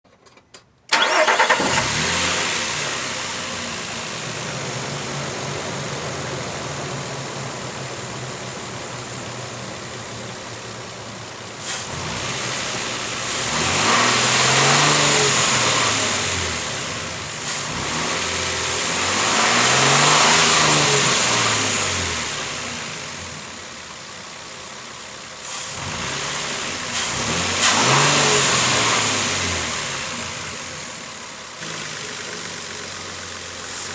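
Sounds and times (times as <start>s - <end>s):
truck engine starting and revving: 0.9s - 24.2s, 24.8s - 33.9s.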